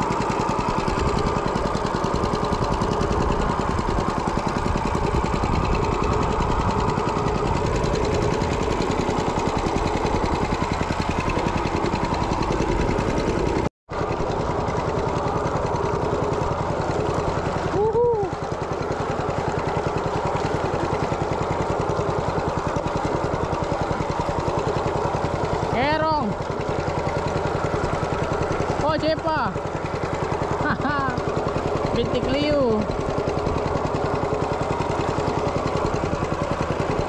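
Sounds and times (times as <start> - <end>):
boat engine chugging: 0.0 - 37.0.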